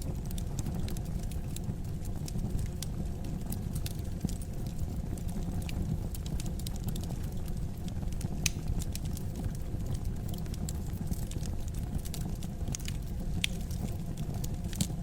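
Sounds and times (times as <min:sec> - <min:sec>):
burning logs crackling: 0:00.0 - 0:15.0
fire flames rumbling: 0:00.0 - 0:15.0.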